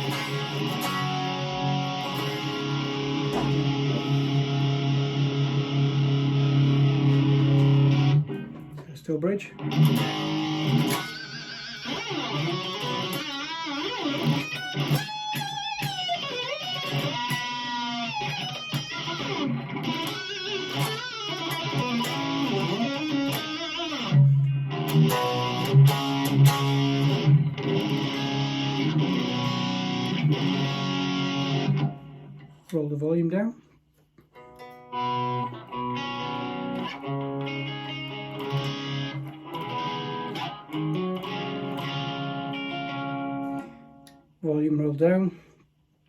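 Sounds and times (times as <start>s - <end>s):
distorted electric guitar: 0.0s - 32.8s, 34.2s - 44.3s.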